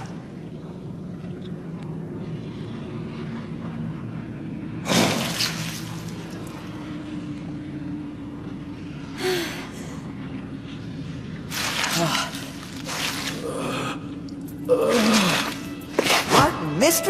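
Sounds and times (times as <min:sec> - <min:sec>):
low steady drone: 0:00.0 - 0:17.0.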